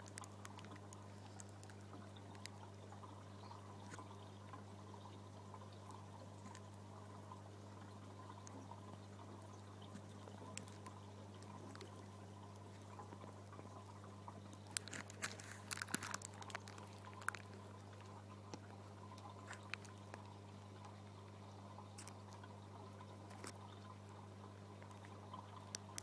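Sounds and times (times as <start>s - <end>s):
aquarium water trickling: 0.0s - 26.0s
small clicks and crackles: 0.0s - 26.0s.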